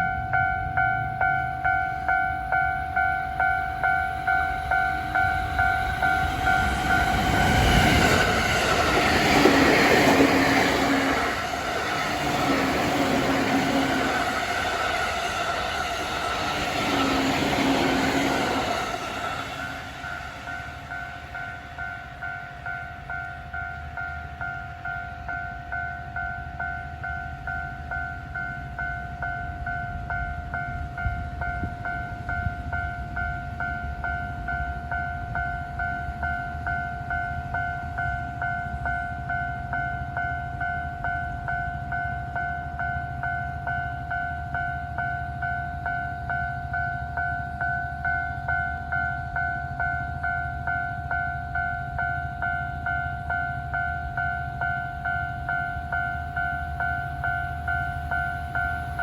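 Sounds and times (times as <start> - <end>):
level crossing warning bell: 0.0 - 59.0.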